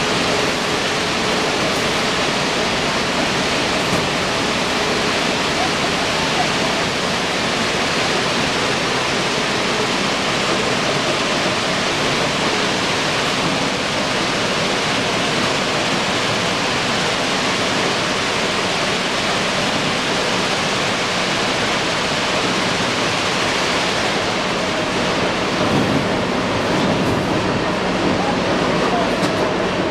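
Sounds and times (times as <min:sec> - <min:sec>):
bag filling machine rushing: 0:00.0 - 0:29.9.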